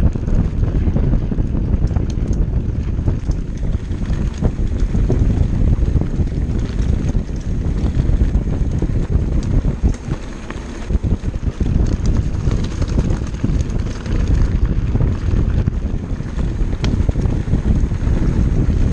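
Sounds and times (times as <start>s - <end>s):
bike frame rattling: 0.0s - 18.9s
bike tyres crunching on rocky trail: 0.0s - 18.9s
wind buffeting microphone: 0.0s - 18.9s.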